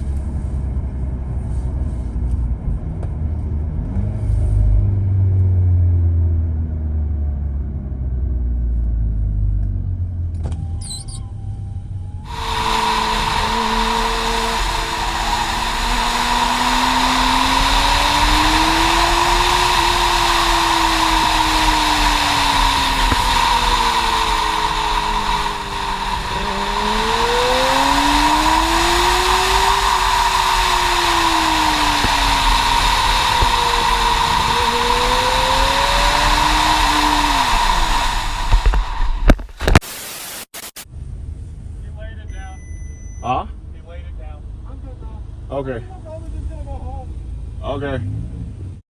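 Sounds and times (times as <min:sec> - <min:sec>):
car engine under hard driving: 0:00.0 - 0:39.8, 0:43.6 - 0:48.8
wind and road noise: 0:00.0 - 0:39.8, 0:43.2 - 0:48.8.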